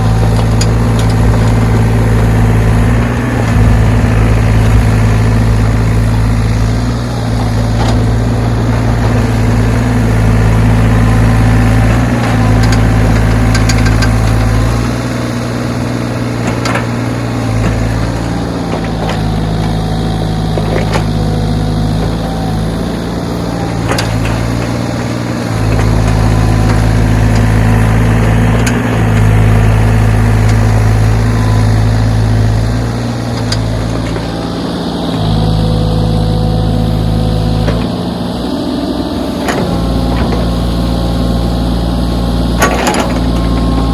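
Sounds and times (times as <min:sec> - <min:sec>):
backhoe diesel engine running: 0:00.0 - 0:43.9.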